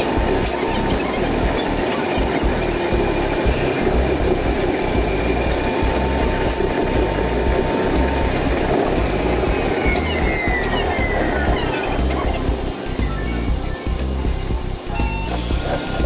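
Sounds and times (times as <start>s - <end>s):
tram rumble and hiss: 0.0s - 16.0s.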